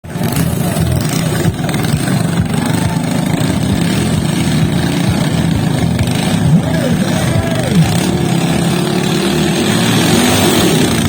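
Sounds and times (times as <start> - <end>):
racing boat engines running: 0.0 - 11.0.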